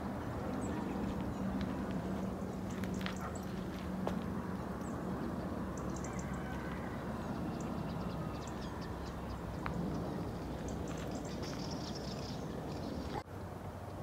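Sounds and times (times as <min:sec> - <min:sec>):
small birds chirping: 0:00.0 - 0:06.4, 0:07.0 - 0:13.3.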